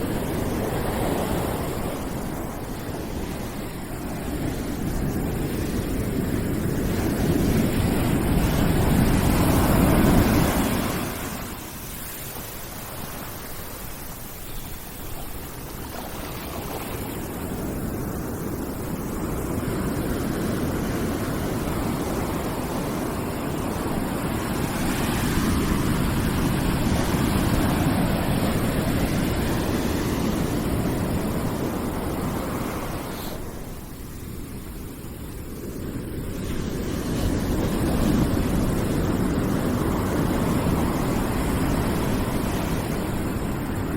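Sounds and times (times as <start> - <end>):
ocean waves rushing: 0.0 - 43.9.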